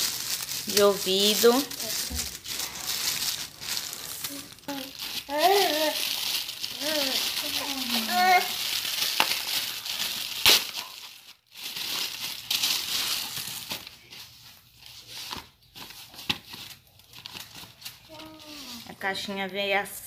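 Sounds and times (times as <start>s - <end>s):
plastic packaging crinkling: 0.0s - 19.3s.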